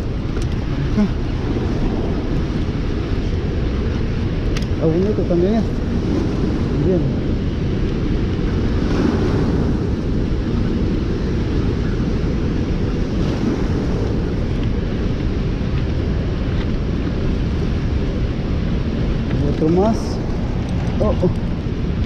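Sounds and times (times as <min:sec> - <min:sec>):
wind on the microphone: 0:00.0 - 0:22.0.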